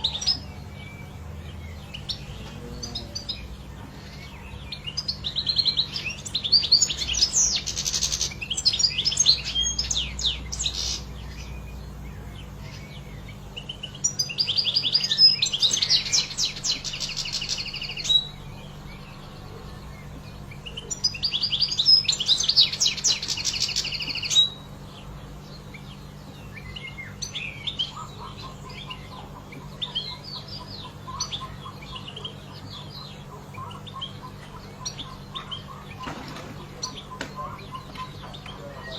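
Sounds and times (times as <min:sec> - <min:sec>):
goldfinch twittering song: 0:00.0 - 0:38.9.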